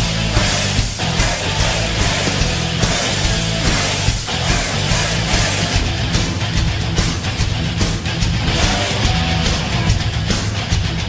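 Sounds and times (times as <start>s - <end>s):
loud hard rock music: 0.0s - 11.0s.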